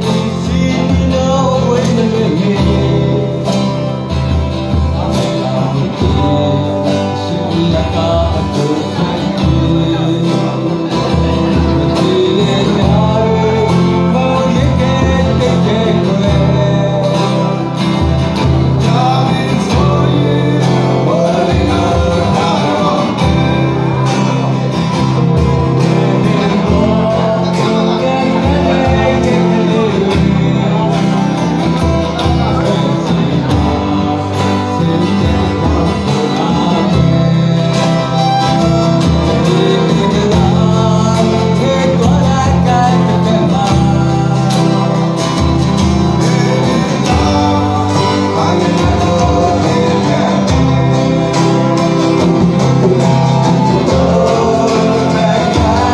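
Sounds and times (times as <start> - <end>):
acoustic guitars strummed: 0.0 - 55.9
man singing into a microphone: 0.0 - 55.9.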